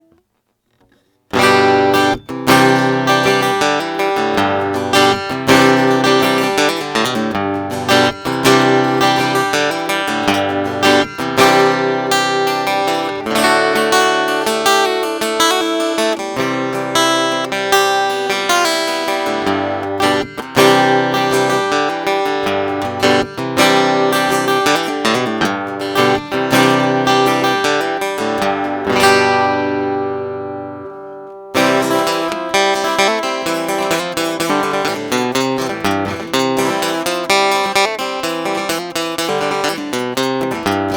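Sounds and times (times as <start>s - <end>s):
acoustic guitar strumming chords: 0.8s - 40.9s.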